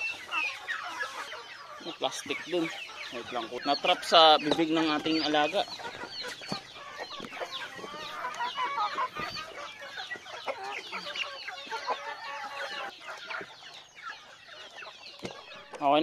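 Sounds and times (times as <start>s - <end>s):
chickens clucking: 0.0s - 16.0s
chicks peeping: 0.0s - 16.0s.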